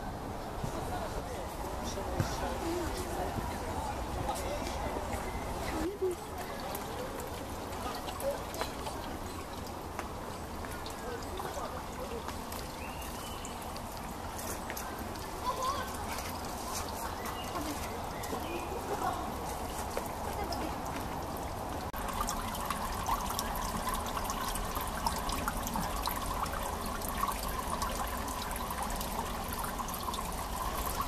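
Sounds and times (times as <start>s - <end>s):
fountain water splashing: 2.7s - 31.0s.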